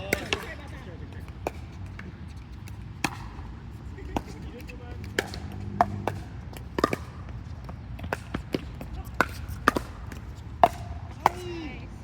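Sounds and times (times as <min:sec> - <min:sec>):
ball bouncing on court: 0:00.0 - 0:11.7
paddles hitting plastic ball: 0:01.2 - 0:11.6.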